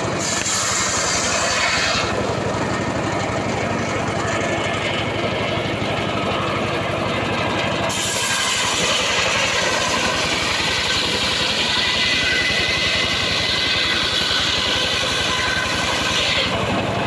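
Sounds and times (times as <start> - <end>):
saw engine running: 0.0 - 17.0.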